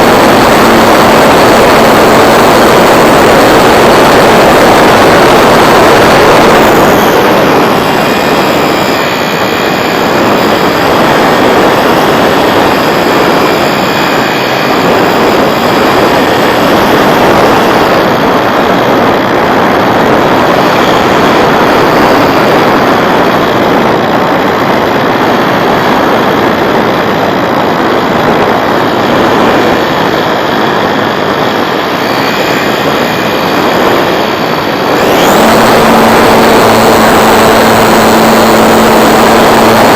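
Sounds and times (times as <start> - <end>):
model plane motor and propeller: 0.0 - 39.9
wind rush: 0.0 - 39.9.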